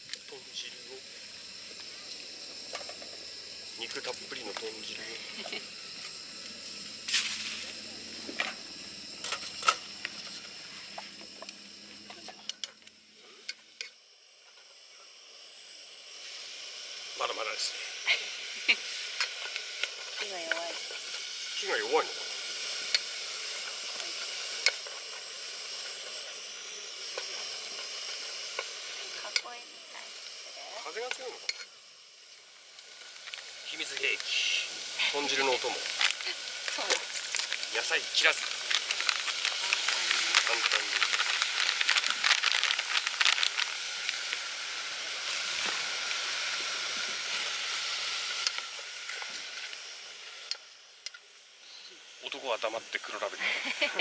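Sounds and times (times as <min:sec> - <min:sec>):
gas burner hissing: 0:00.0 - 0:54.0
pork sizzling in a pot: 0:00.0 - 0:54.0.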